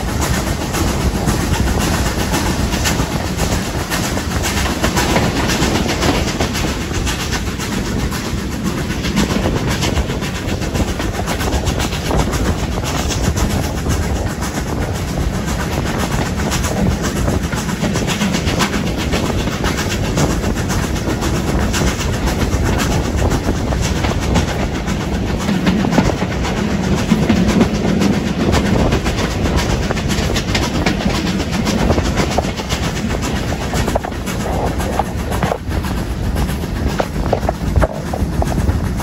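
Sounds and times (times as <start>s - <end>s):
rush of air past train: 0.0s - 39.0s
train rumbling: 0.0s - 39.0s
wheels clicking over rail joints: 0.0s - 39.0s.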